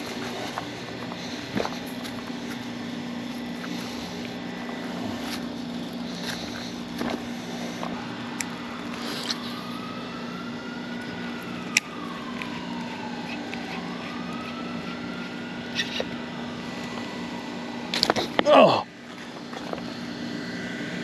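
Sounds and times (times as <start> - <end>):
distant siren wailing: 0.0 - 21.0
low hum of traffic: 0.0 - 21.0.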